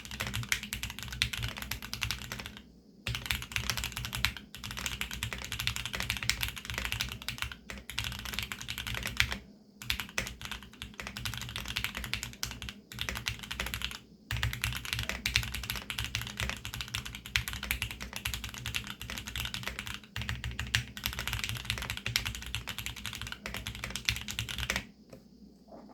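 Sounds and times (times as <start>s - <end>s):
fast typing on mechanical keyboard: 0.0s - 24.9s.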